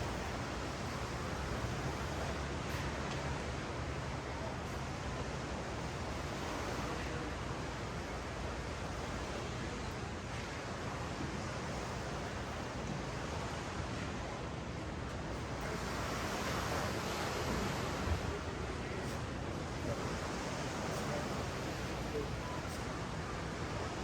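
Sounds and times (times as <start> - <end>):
ocean surf on sandy beach: 0.0 - 24.0.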